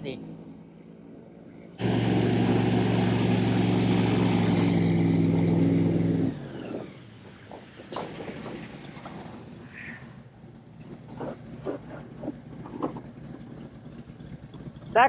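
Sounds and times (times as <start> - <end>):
airboat engine and propeller: 0.0 - 15.0.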